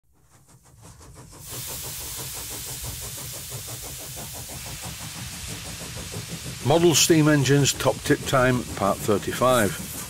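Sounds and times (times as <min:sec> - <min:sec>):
steam engine chuffing: 0:00.1 - 0:10.0
steam hissing: 0:00.2 - 0:10.0.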